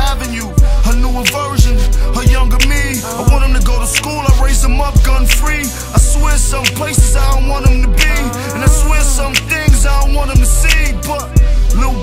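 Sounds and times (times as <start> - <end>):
deep bass line: 0.0 - 12.0
heavy bass drum: 0.0 - 12.0.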